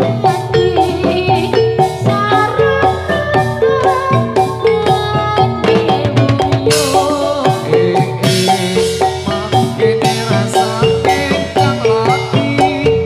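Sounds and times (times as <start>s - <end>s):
drums on steady beat: 0.0s - 13.0s
metallophones playing fast melody: 0.0s - 13.0s.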